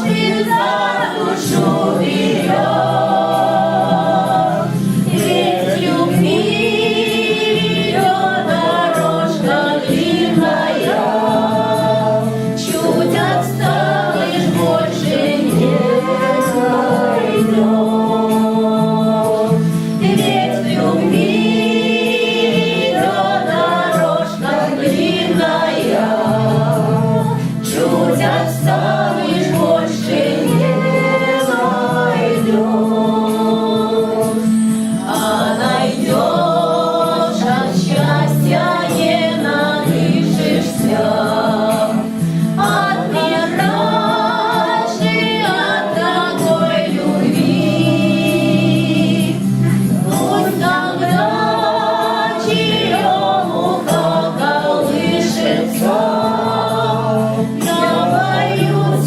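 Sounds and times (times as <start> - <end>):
group of people singing: 0.0 - 59.0.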